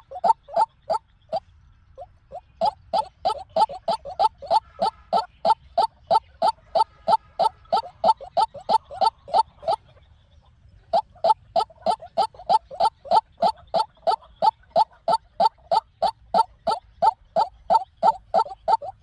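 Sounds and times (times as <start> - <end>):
waterhen calling: 0.0 - 1.4, 2.0 - 9.8, 10.9 - 19.0.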